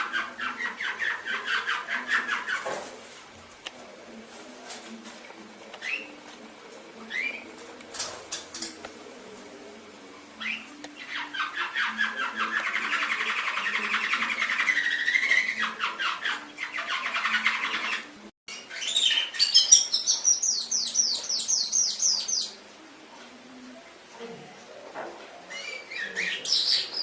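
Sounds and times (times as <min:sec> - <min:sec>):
canary singing: 0:00.0 - 0:02.7, 0:05.7 - 0:23.8, 0:25.4 - 0:27.0.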